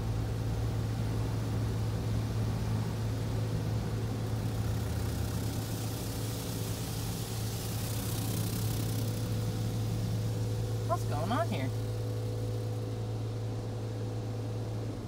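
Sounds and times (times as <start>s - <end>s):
steady low hum: 0.0s - 15.0s
water spraying over car: 0.1s - 14.9s.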